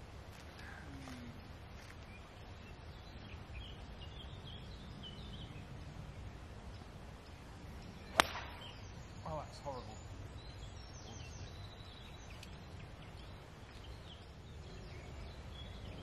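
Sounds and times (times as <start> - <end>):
small birds chirping: 0.3 - 16.0.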